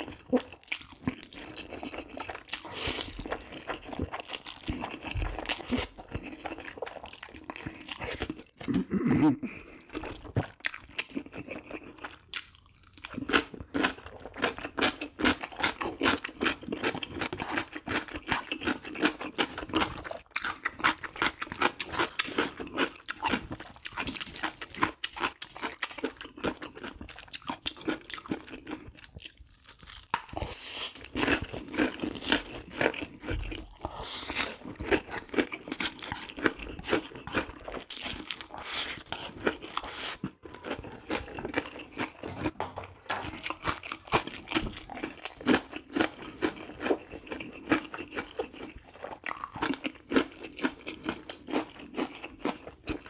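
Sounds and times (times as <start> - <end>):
chewing crunchy food: 0.0 - 53.0.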